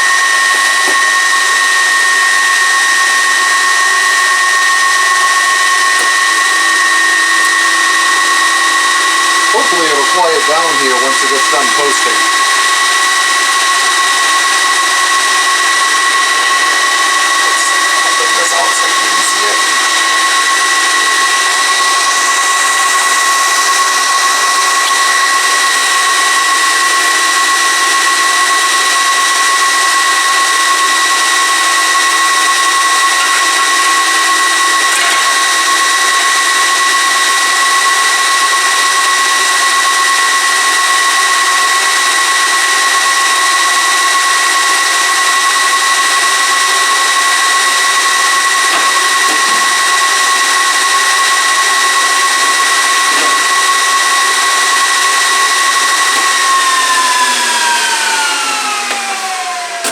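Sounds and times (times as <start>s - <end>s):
server fans whining: 0.0s - 59.9s.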